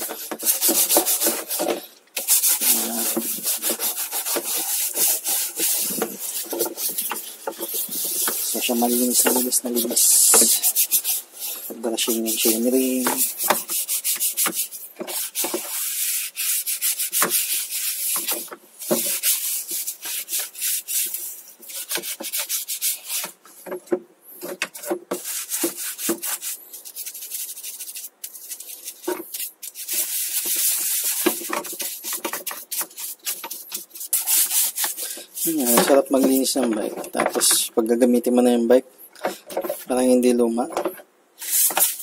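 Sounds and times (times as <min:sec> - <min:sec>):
brush scrubbing a chainring: 0:00.0 - 0:23.6, 0:24.5 - 0:38.4, 0:41.4 - 0:42.0.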